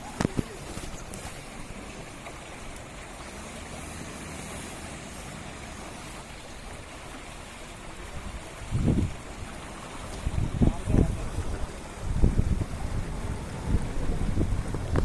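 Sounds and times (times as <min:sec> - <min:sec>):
outdoor noise rush: 0:00.0 - 0:15.0.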